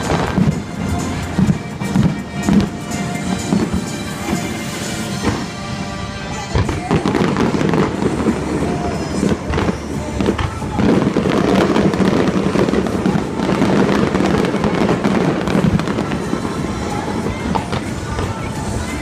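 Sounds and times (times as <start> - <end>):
fireworks bangs and crackles: 0.0 - 19.0
music playing: 0.0 - 19.0.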